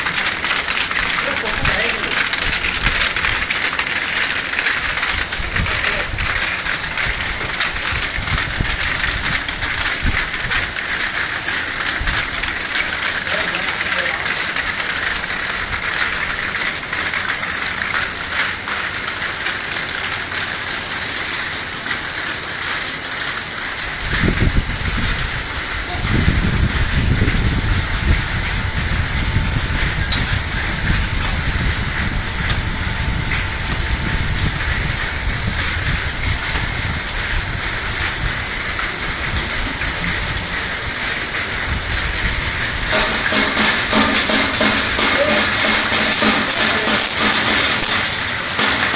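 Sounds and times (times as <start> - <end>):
washing machine jets hissing: 0.0 - 48.9.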